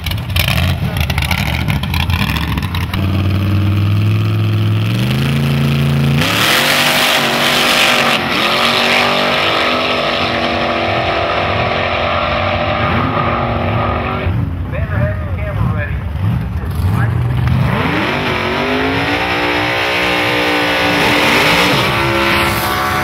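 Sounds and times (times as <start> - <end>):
drag racing engines revving: 0.0 - 23.0.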